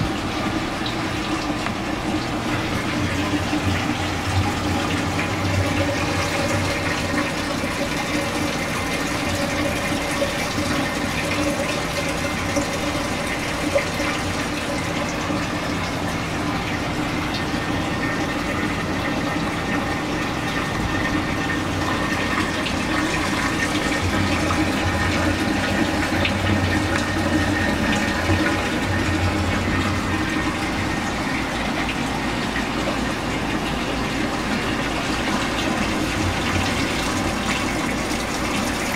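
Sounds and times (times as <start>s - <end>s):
low pump hum: 0.0s - 38.9s
water flowing and splashing: 0.0s - 38.9s.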